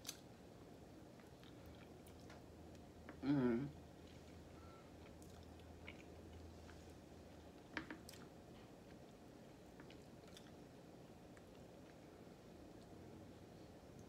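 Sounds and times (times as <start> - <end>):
soft chewing: 0.0 - 14.0.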